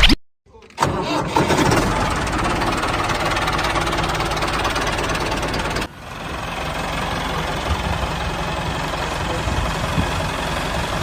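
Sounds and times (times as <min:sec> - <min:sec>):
engine idling with knocking: 0:01.7 - 0:11.0.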